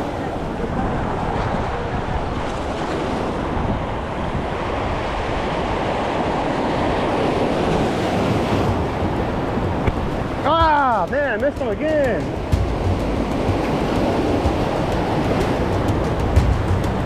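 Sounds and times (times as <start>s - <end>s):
waves against a jetty: 0.0s - 17.0s
wind buffeting microphone: 0.0s - 17.0s.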